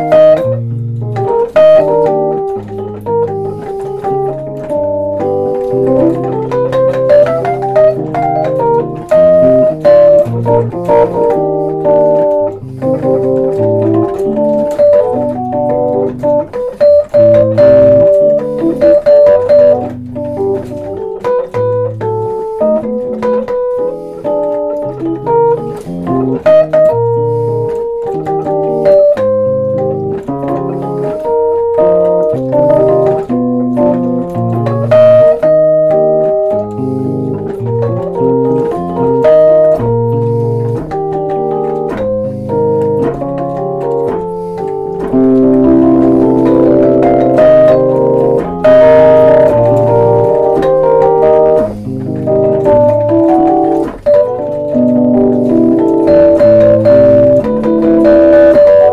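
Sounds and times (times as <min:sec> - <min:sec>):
electric piano jazz ballad: 0:00.0 - 0:58.9.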